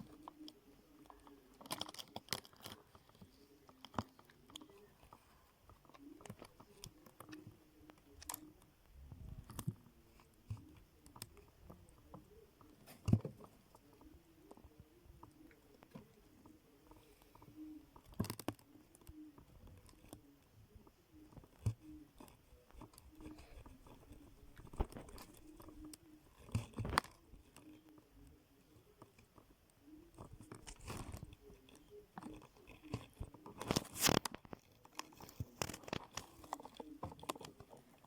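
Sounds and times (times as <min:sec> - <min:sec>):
crunchy chewing: 0:00.0 - 0:38.0.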